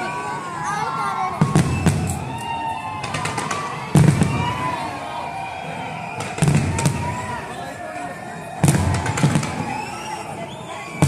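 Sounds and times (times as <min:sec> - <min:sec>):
fireworks booming and crackling: 0:01.3 - 0:07.8, 0:08.4 - 0:11.0.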